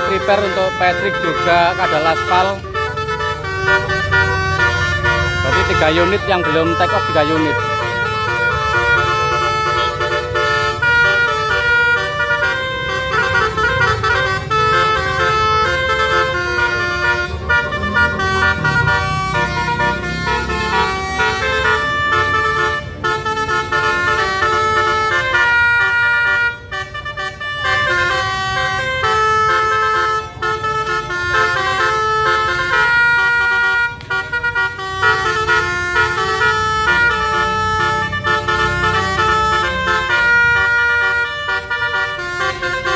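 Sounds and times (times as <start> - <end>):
musical air horn playing tune: 0.0 - 42.9
vehicle engines running: 0.0 - 42.9.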